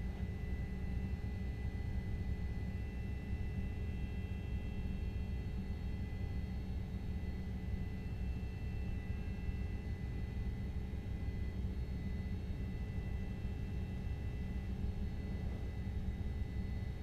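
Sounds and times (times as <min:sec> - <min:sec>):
helicopter engine and rotors: 0:00.0 - 0:17.0.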